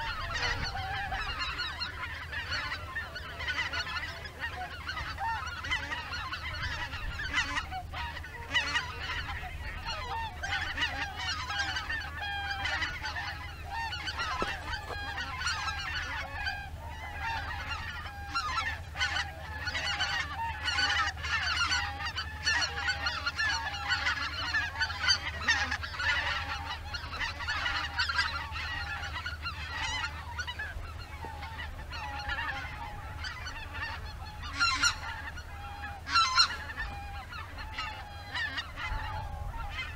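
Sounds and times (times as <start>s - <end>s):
geese honking in flight: 0.0s - 39.9s.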